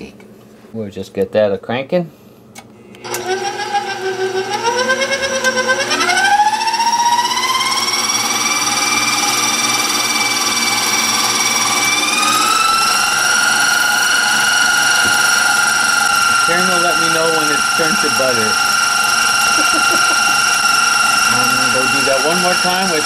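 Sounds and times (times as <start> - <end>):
electric mixer motor whine: 2.9 - 23.0.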